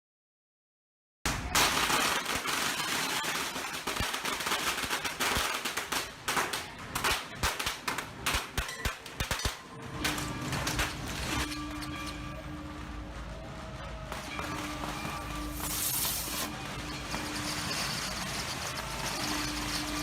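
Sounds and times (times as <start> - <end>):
firecrackers crackling and banging: 1.3 - 20.0.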